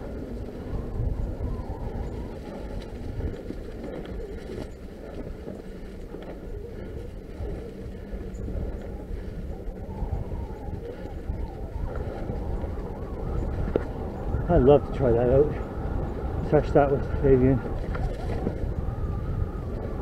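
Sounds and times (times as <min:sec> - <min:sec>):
bike tyres rumbling on dirt: 0:00.0 - 0:20.0
wind noise: 0:00.0 - 0:20.0.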